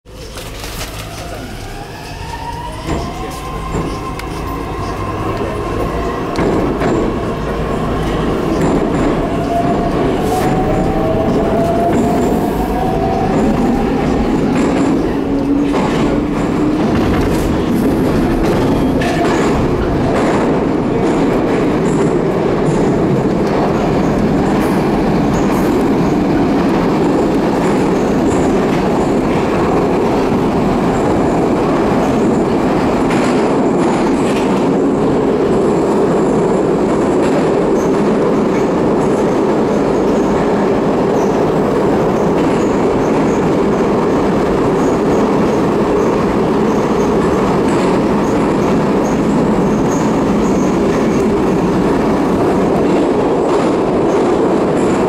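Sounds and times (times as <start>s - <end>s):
train running rumble: 0.1s - 55.0s.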